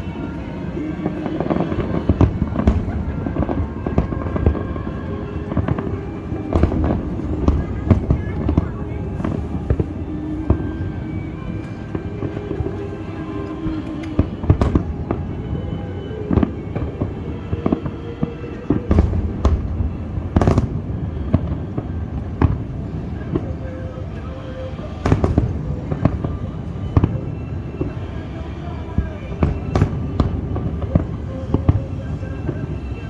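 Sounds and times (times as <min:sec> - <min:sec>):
fireworks bursting with sharp bangs: 0:00.0 - 0:33.0
steady background din: 0:00.0 - 0:33.0.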